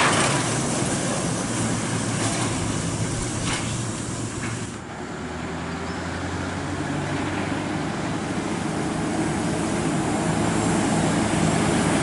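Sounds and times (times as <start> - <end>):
truck diesel engine droning: 0.0 - 12.0
tyre and road noise: 0.0 - 12.0.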